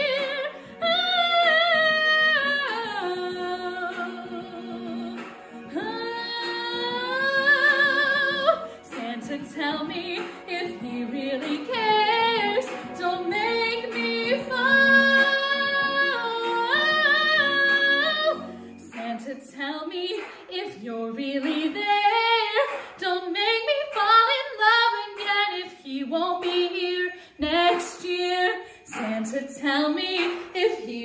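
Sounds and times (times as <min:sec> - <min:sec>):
backing music: 0:00.0 - 0:31.0.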